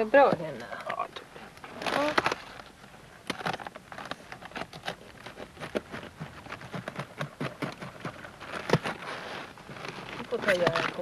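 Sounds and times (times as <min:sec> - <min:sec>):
cabbage leaves crackling: 0:00.0 - 0:07.0, 0:07.6 - 0:11.0.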